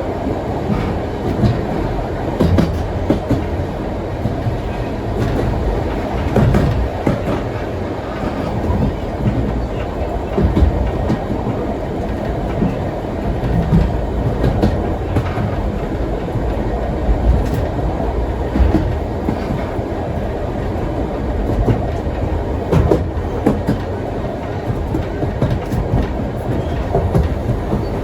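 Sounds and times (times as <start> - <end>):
train carriage rumbling: 0.0 - 28.0
wheels clacking over rail joints: 0.0 - 28.0.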